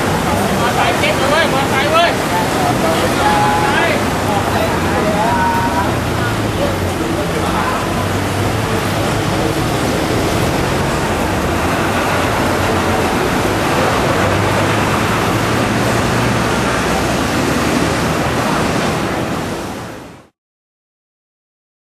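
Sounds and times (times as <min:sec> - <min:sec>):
low engine hum: 0:00.0 - 0:20.3
traffic noise: 0:00.0 - 0:20.4.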